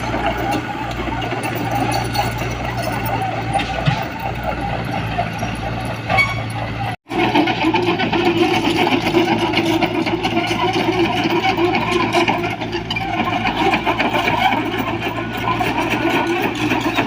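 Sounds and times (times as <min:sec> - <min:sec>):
diesel construction machine engine: 0:00.0 - 0:17.0.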